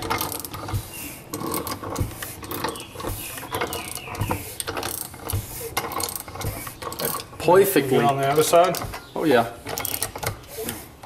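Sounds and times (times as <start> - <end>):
ratchet wrench clicking: 0.0 - 7.4, 8.3 - 10.7.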